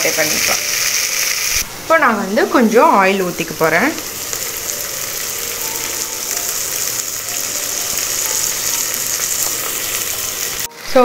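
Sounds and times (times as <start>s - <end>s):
onions sizzling in a pot: 0.0s - 11.0s.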